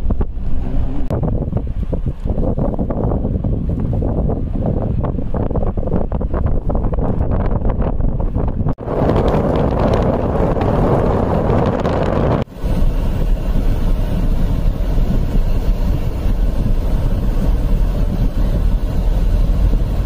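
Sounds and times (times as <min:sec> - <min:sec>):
blizzard wind buffeting microphone: 0:00.0 - 0:20.0.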